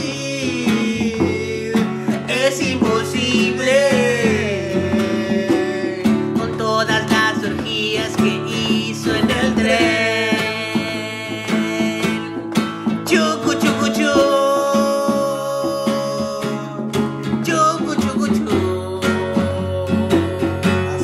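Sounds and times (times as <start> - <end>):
person singing: 0.0 - 21.0
plucked guitar: 0.0 - 21.0.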